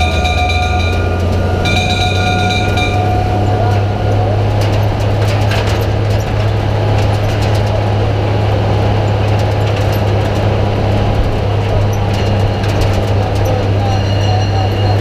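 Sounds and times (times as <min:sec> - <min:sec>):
fire engine engine droning: 0:00.0 - 0:15.0
light clicks and rattles: 0:00.0 - 0:15.0.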